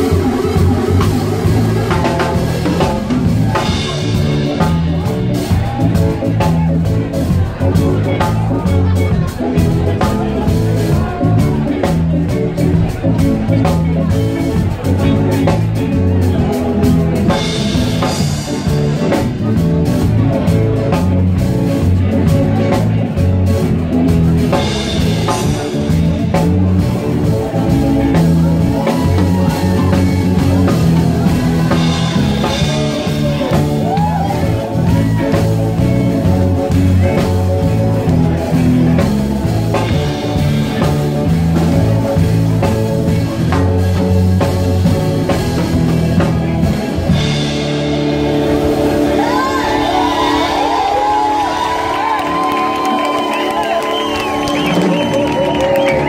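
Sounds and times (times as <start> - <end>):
bass guitar line: 0.0 - 56.0
live band playing: 0.0 - 56.0.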